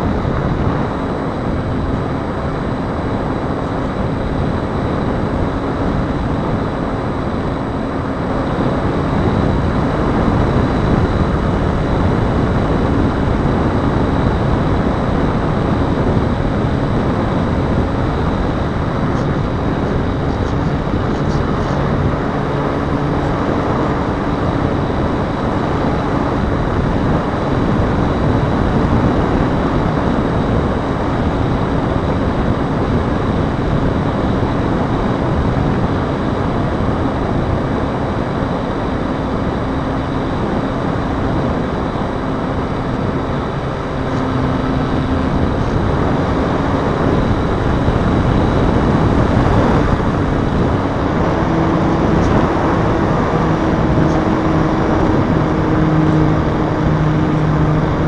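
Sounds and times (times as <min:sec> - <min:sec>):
electric motor and propeller drone: 0:00.0 - 0:58.0
wind rush on microphone: 0:00.0 - 0:58.0.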